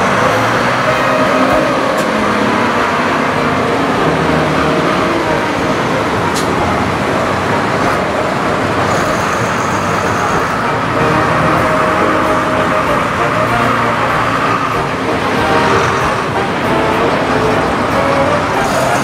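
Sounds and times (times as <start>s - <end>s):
crowd murmur: 0.0s - 19.0s
diesel tractor engines running: 0.0s - 19.0s.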